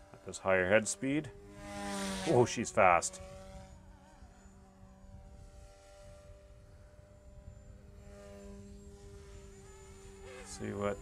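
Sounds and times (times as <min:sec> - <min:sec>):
rc helicopter rotor hum: 0:00.0 - 0:11.0.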